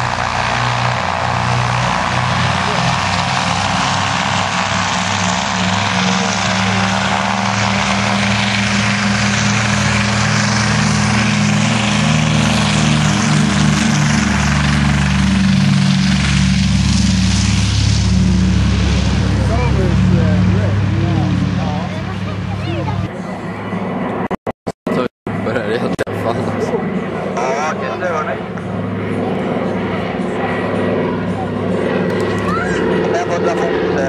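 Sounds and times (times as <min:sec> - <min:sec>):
propeller plane engines at high power: 0:00.0 - 0:34.0.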